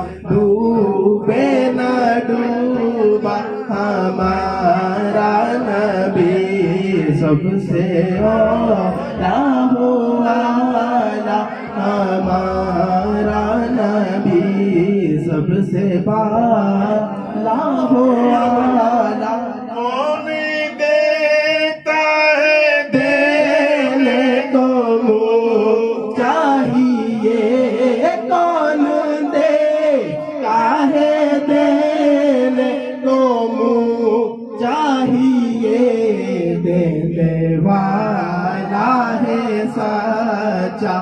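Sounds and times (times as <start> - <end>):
man singing unaccompanied: 0.0 - 41.0.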